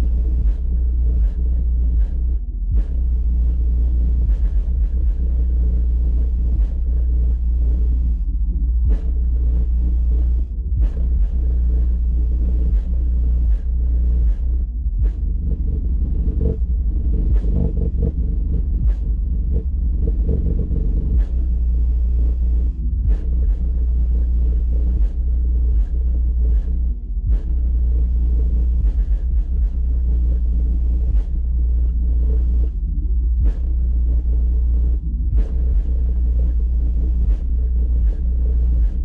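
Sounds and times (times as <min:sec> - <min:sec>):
subwoofer playing deep bass: 0:00.0 - 0:39.0.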